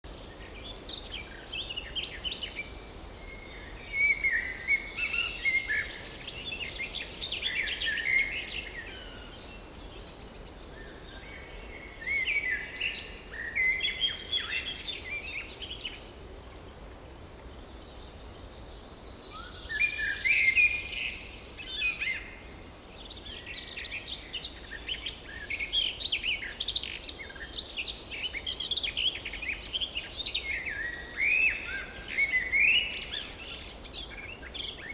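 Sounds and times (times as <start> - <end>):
faint background hiss: 0.1 - 34.9
songbirds chirping and trilling: 0.1 - 34.9.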